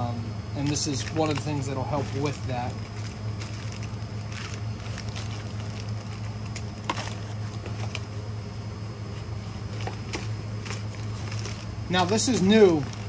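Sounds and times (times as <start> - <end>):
steady low hum: 0.0 - 13.0
plastic bags crinkling: 0.6 - 8.0, 9.8 - 13.0.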